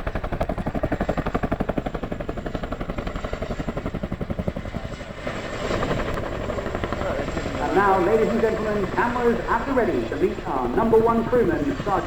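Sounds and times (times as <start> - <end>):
helicopter rotors chopping: 0.0 - 12.0.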